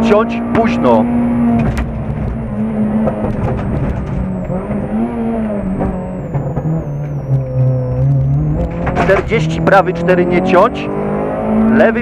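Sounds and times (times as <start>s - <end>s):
rally car engine from inside: 0.0s - 12.0s.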